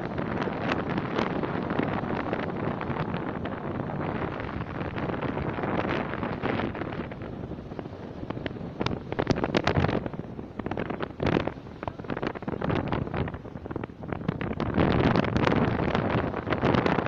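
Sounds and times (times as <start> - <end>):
sea waves breaking on rocks: 0.0 - 17.0
wind buffeting microphone: 0.0 - 17.0.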